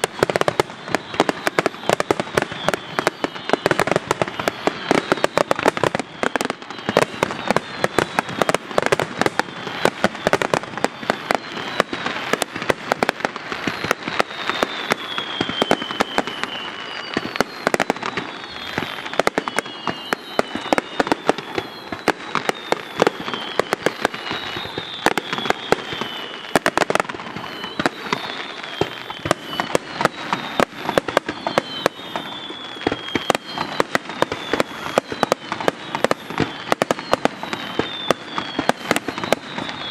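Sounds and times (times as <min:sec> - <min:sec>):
fireworks bangs and crackling: 0:00.0 - 0:39.9
high falling whistles: 0:00.0 - 0:39.9.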